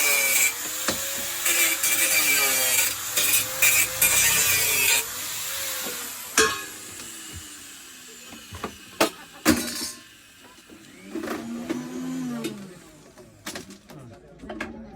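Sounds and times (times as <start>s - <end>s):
power tool motor: 0.0s - 12.9s.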